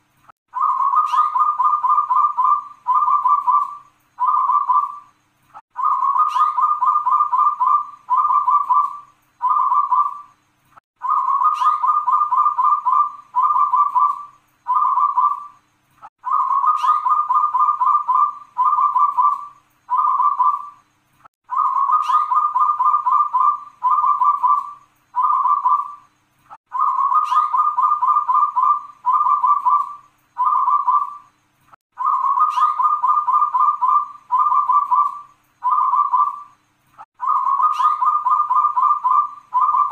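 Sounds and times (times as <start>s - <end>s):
dove cooing: 0.5s - 5.1s, 5.7s - 10.3s, 11.0s - 15.6s, 16.2s - 20.8s, 21.5s - 26.0s, 26.7s - 31.2s, 32.0s - 36.6s, 37.2s - 39.9s.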